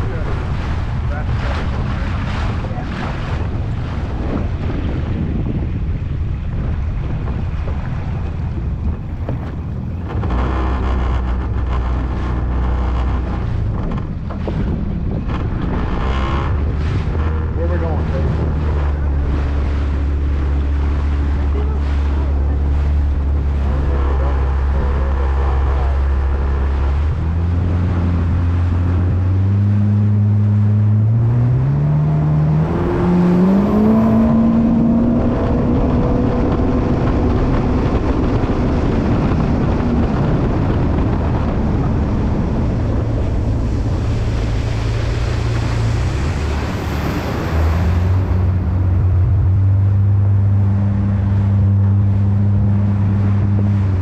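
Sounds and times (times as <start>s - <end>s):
jet ski engine: 0.0s - 54.0s
wind and water rushing: 0.0s - 54.0s.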